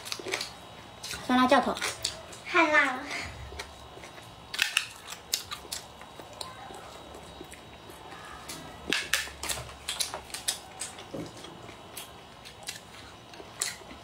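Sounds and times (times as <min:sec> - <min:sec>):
crunchy chewing: 0:00.0 - 0:02.5, 0:03.1 - 0:14.0.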